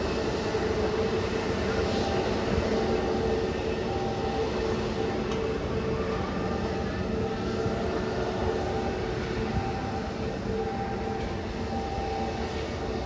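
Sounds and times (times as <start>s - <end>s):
jet engines taxiing: 0.0s - 13.0s.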